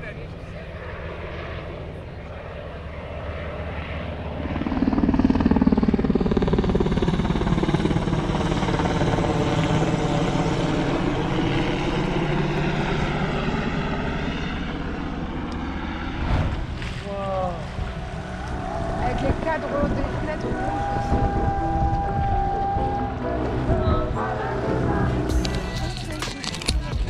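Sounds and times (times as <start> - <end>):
low-flying aircraft engine drone: 0.0 - 27.0.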